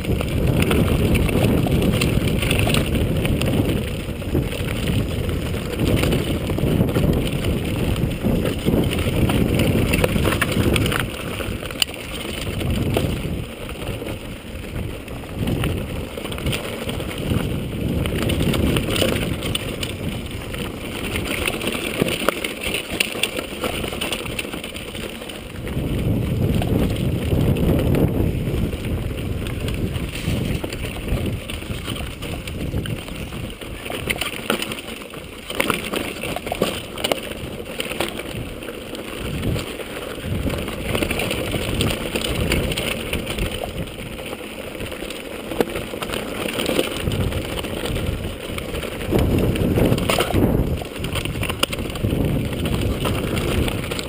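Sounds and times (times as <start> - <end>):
wind buffeting microphone: 0.0 - 22.3, 23.7 - 54.0.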